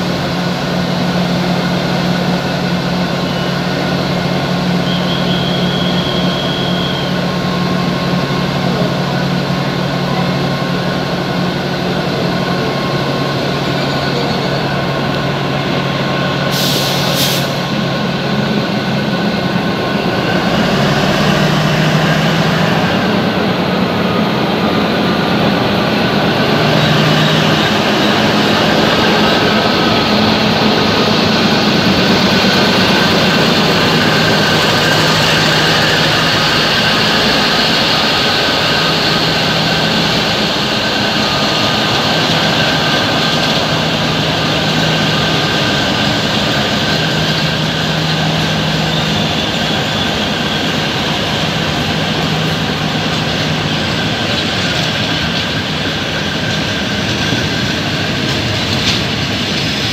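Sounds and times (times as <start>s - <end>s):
locomotive engine humming: 0.0s - 59.9s
train wheels rumbling on rails: 0.0s - 59.9s.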